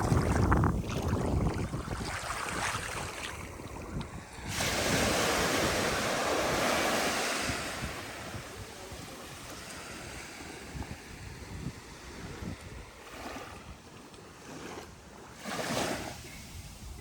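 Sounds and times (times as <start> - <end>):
wind buffeting microphone: 0.0 - 13.9, 14.8 - 17.0
waves breaking on beach: 0.0 - 17.0.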